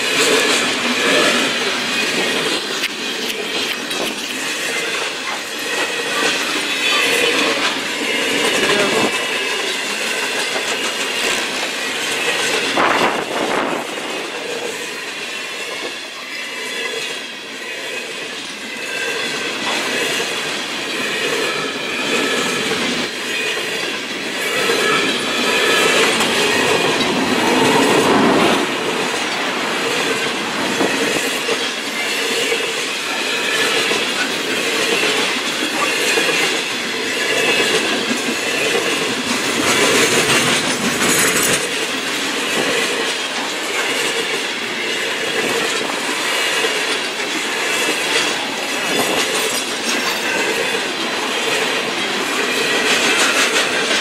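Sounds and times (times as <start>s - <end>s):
train wheels rushing on rail: 0.0s - 54.0s.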